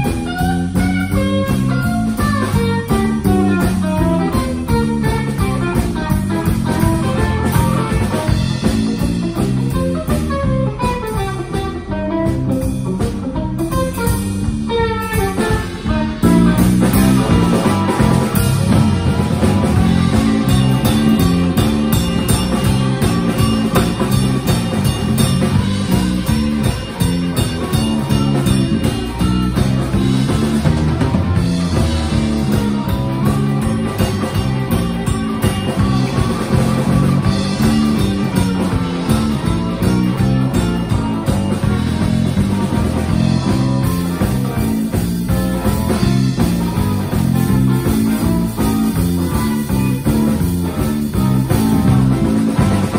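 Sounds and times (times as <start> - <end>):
drum kit: 0.0 - 52.9
electric bass: 0.0 - 52.9
live rock band playing: 0.0 - 52.9.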